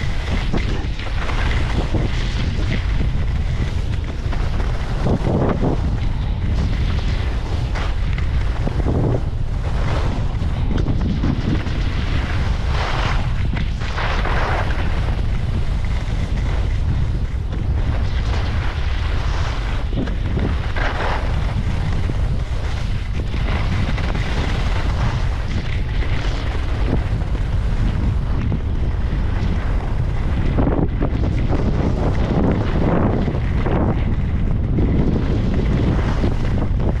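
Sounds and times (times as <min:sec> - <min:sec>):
skis scraping on snow: 0:00.0 - 0:37.0
wind buffeting microphone: 0:00.0 - 0:37.0.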